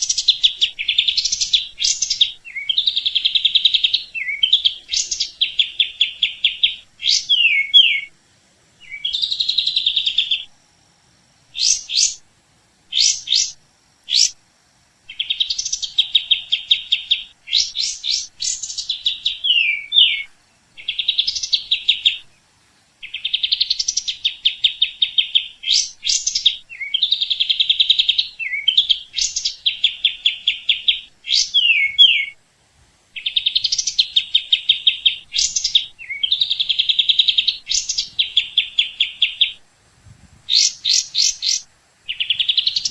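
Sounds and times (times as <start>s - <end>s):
songbird singing buzzy trills: 0.0s - 42.9s.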